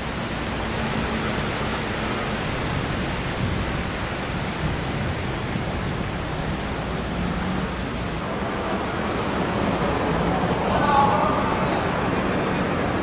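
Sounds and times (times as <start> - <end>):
rushing flowing water: 0.0 - 13.0.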